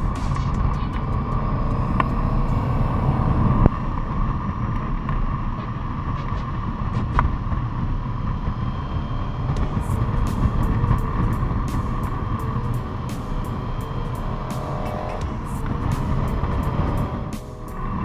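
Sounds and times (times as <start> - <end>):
motorcycle engine humming: 0.0 - 18.0
wind noise: 0.0 - 18.0.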